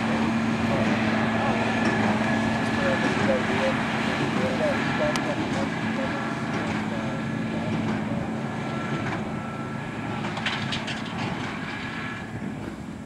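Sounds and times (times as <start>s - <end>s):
tractor and baler humming: 0.0s - 13.0s.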